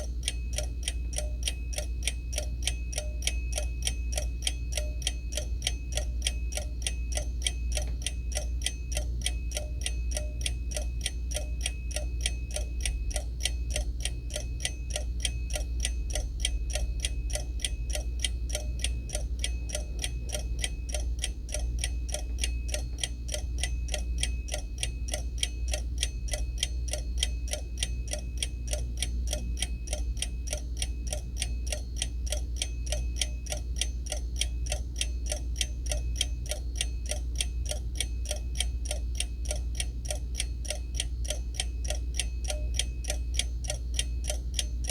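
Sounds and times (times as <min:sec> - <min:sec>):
alarm clock ticking: 0:00.0 - 0:44.9
steady low hum: 0:00.0 - 0:44.9.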